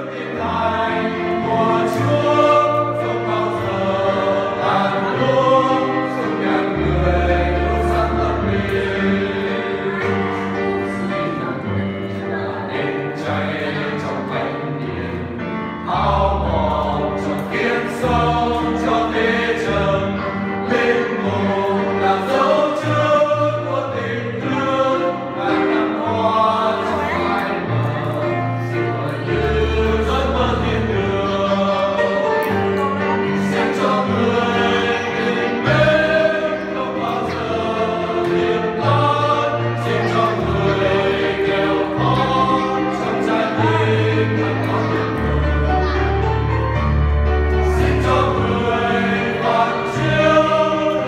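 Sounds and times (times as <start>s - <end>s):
group of men singing: 0.0s - 51.0s.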